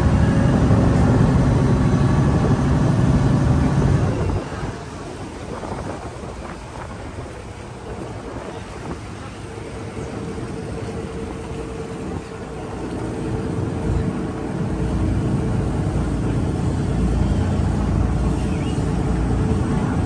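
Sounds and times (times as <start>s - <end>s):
ferry engine rumbling: 0.0s - 20.0s.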